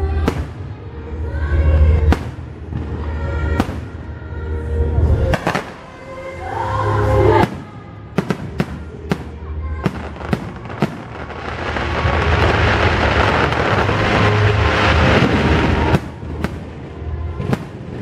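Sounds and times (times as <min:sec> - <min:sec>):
dense firework crackle: 0:00.0 - 0:04.1, 0:07.4 - 0:18.0.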